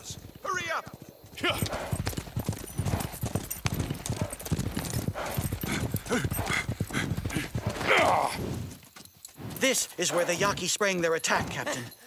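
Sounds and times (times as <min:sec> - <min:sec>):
hooves galloping: 0:00.0 - 0:12.0.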